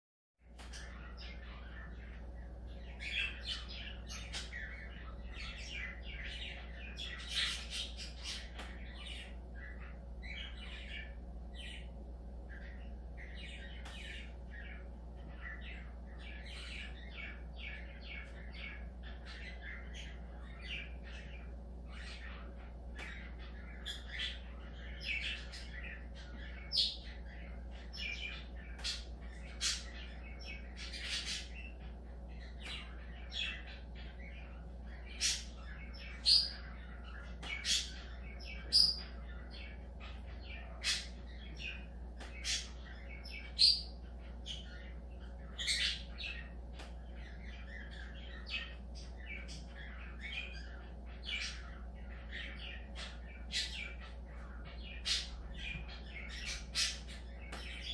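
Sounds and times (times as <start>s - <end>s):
low steady hum: 0.4s - 57.9s
budgerigars chirping: 0.6s - 57.9s.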